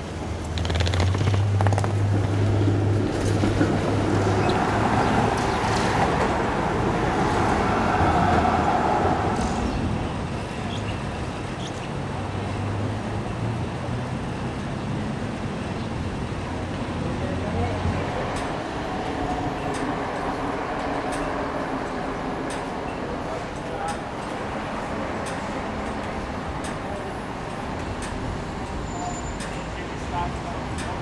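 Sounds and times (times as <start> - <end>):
cars passing: 0.0 - 31.0
tram passing: 0.0 - 31.0.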